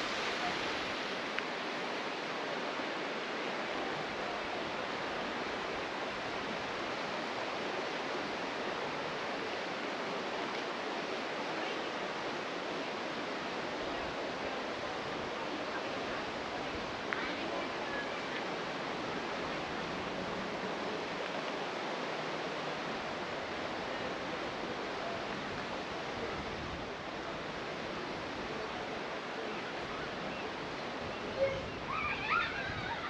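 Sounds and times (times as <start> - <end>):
rushing water: 0.0 - 33.0.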